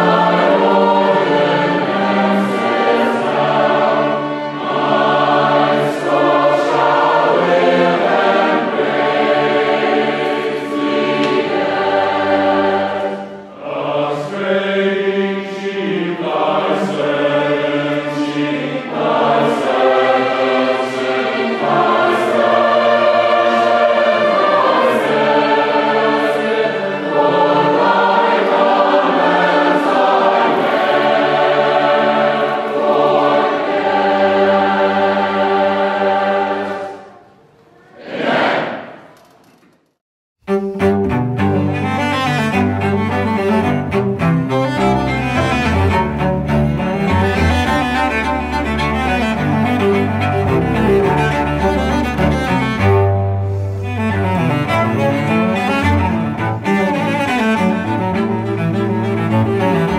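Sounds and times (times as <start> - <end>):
choir singing: 0.0 - 39.1, 40.8 - 53.1, 53.8 - 59.9.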